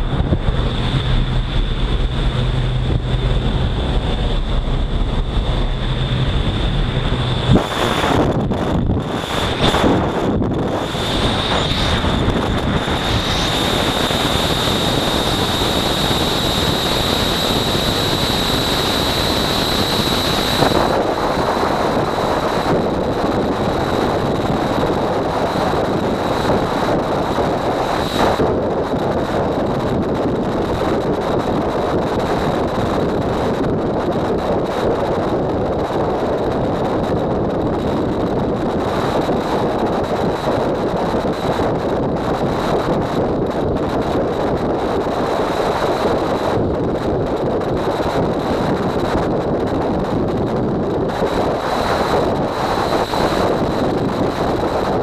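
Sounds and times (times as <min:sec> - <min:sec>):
wind noise rushing: 0:00.0 - 0:55.0.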